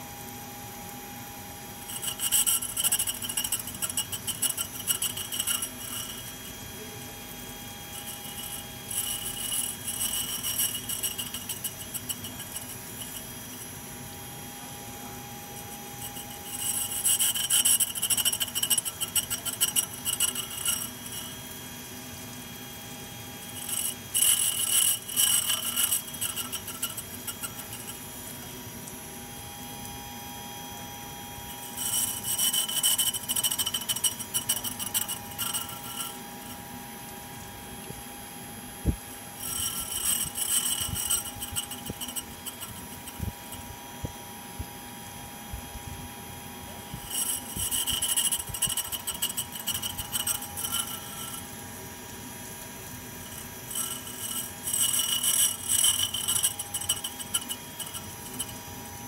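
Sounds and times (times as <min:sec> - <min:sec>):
tool grinder whining: 0:00.0 - 0:59.0
tool grinding against wheel: 0:01.8 - 0:30.0, 0:31.2 - 0:38.1, 0:38.8 - 0:44.6, 0:46.7 - 0:59.0.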